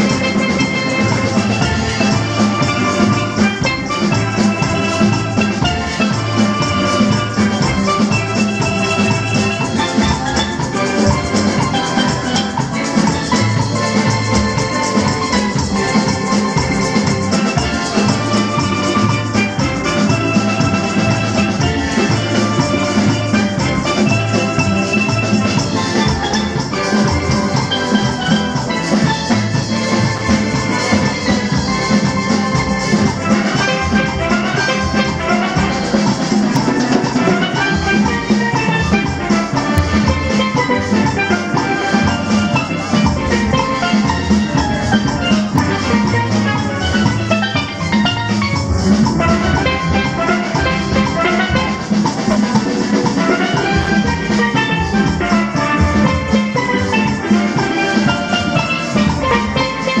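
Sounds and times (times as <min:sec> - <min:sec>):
steel band playing calypso: 0:00.0 - 1:00.0.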